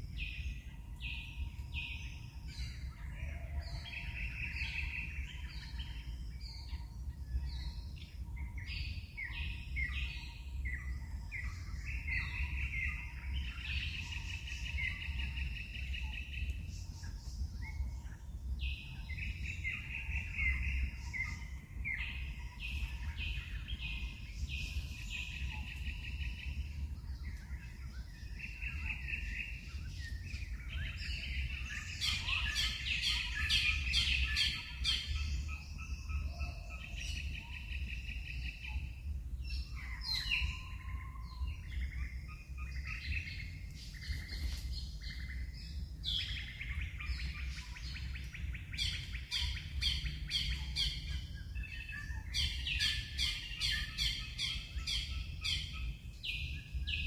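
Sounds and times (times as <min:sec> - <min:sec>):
birds chirping and trilling: 0:00.0 - 0:57.0
steady low rumble: 0:00.0 - 0:57.0.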